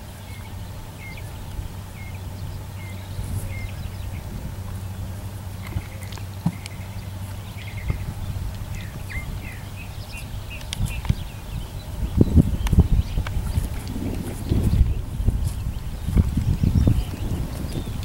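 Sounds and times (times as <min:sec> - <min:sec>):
birds chirping: 0:00.0 - 0:18.0
hooves knocking on wooden logs: 0:00.0 - 0:18.0
steady low hum: 0:00.0 - 0:18.0.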